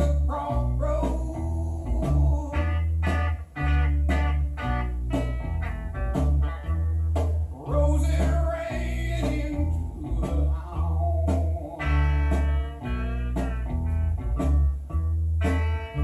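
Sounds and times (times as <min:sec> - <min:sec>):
blues-rock guitar: 0:00.0 - 0:16.0
heavy pulsing bass line: 0:00.0 - 0:16.0.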